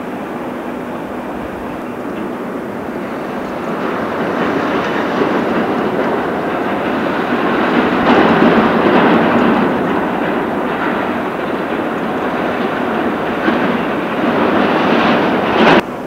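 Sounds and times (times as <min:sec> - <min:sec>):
diesel earthmoving machinery rumbling: 0:00.0 - 0:16.0.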